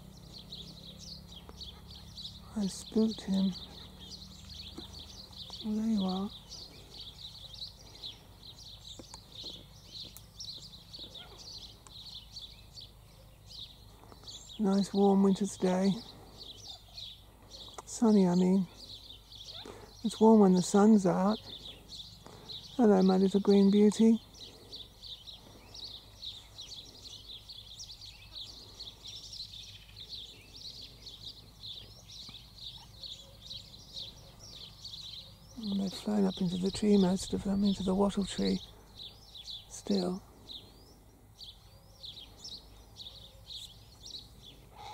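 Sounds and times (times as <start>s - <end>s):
birds chirping and twittering: 0.0s - 44.9s.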